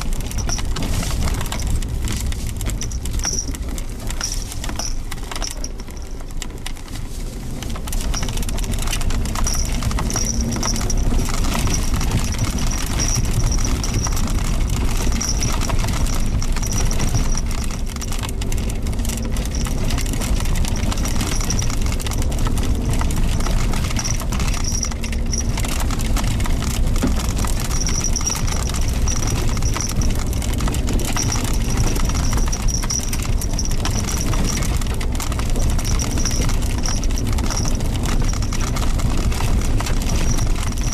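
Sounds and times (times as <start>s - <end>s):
engine and road rumble: 0.0s - 40.9s
knocks and rattles: 0.0s - 40.9s.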